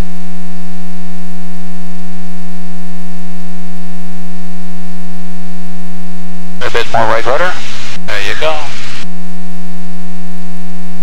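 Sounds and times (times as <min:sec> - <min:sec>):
low electronic buzzing tone: 0:00.0 - 0:11.0.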